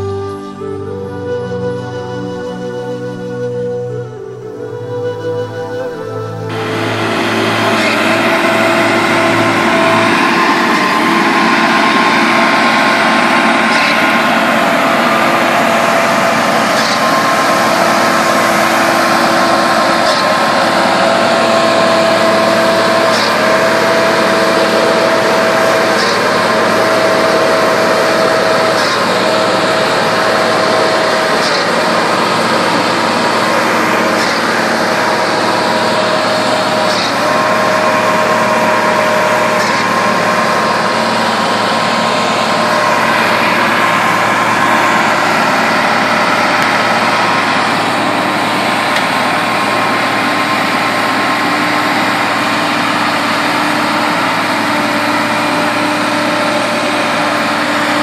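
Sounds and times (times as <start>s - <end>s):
tractor diesel engine running: 3.0s - 58.0s
steady tone: 3.1s - 57.2s.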